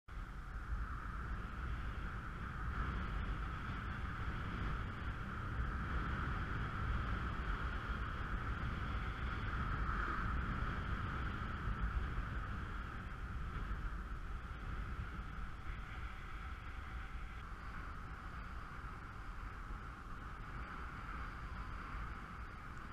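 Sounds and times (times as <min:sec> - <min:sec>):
low rumble: 0:00.1 - 0:22.9
wind buffeting microphone: 0:00.1 - 0:22.9.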